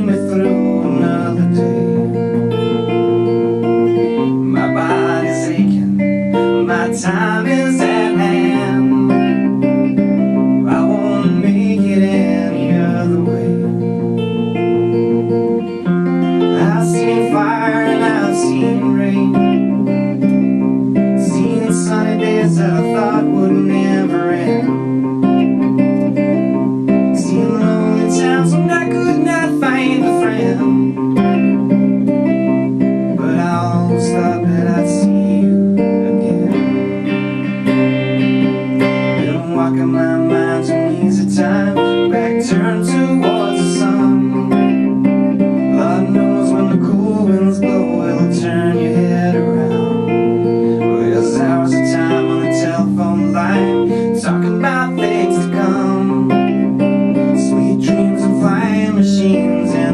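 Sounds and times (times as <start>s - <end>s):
person singing: 0.0s - 31.8s, 32.5s - 59.9s
acoustic guitar: 0.0s - 59.9s.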